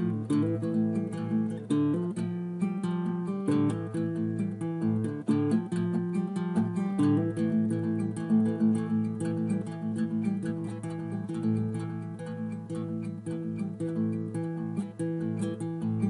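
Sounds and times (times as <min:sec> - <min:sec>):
acoustic guitar plucking: 0:00.0 - 0:16.0.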